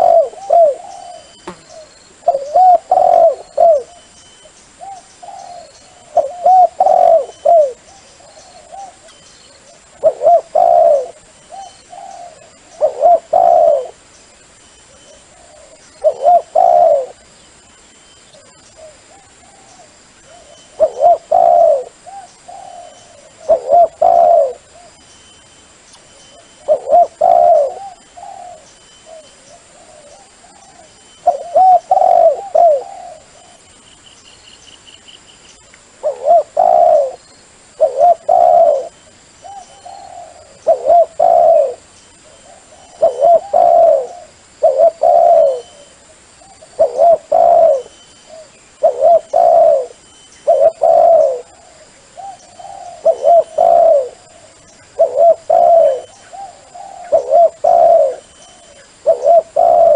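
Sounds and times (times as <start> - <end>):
dove cooing: 0.0 - 4.1, 4.8 - 14.1, 14.9 - 17.3, 18.4 - 25.0, 26.3 - 33.7, 36.0 - 37.2, 37.8 - 59.9.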